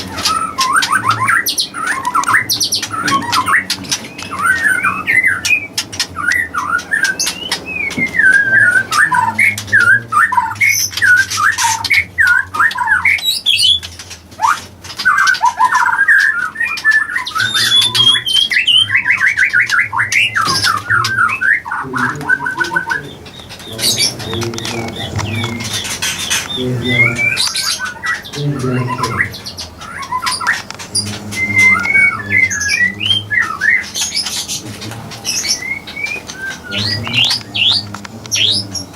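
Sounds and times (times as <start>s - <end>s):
birds chirping and squawking: 0.0s - 38.9s.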